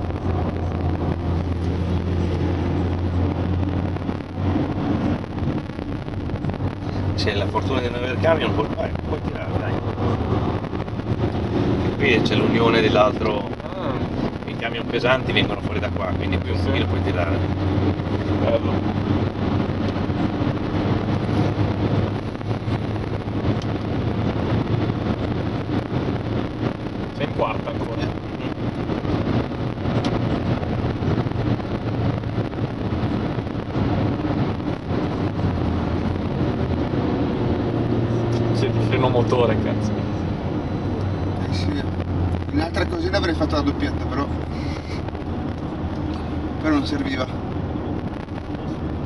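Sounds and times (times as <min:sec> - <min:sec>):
road and wind noise: 0:00.0 - 0:49.0
van engine droning: 0:00.0 - 0:49.0.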